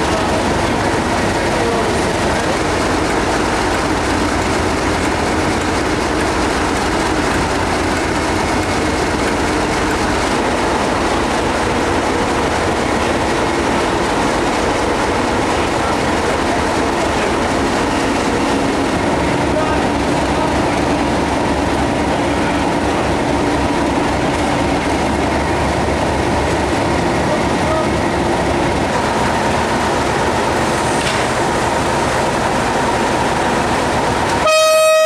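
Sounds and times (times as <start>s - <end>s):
diesel locomotive engines droning: 0.0s - 35.0s.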